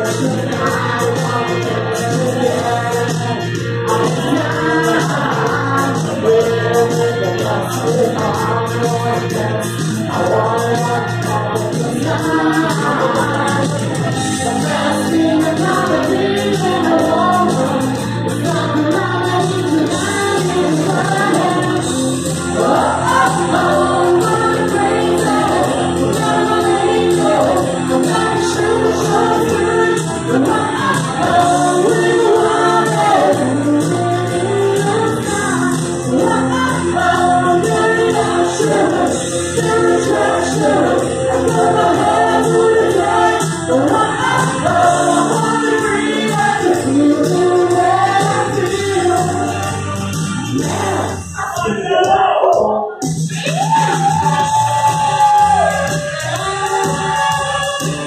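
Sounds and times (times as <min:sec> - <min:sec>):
electric guitar: 0:00.0 - 0:51.7
bass guitar: 0:00.0 - 0:58.0
drums: 0:00.0 - 0:58.0
person singing into microphone: 0:00.0 - 0:58.0.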